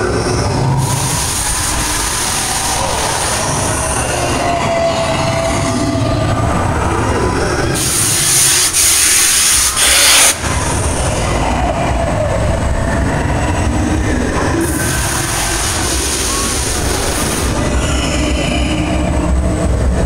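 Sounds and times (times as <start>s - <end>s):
loud hissing rush: 0.0s - 13.1s, 13.7s - 17.9s
ride vehicle rumbling on track: 0.0s - 20.0s.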